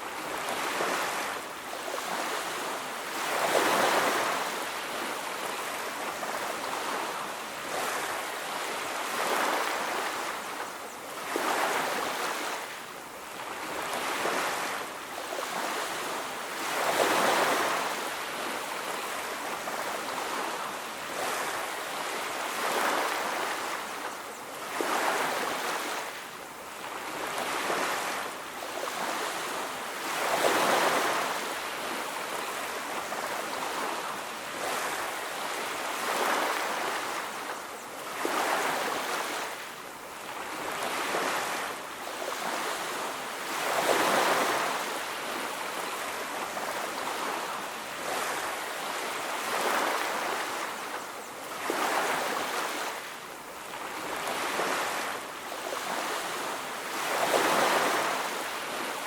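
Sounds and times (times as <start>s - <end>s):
waves washing onto beach: 0.0s - 59.0s.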